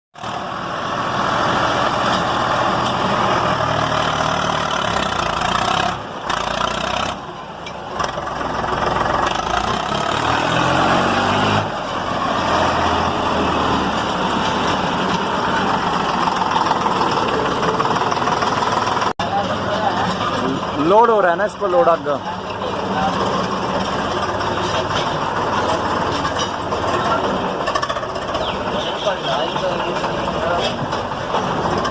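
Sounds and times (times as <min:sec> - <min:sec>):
tractor diesel engine under load: 0:00.2 - 0:31.9.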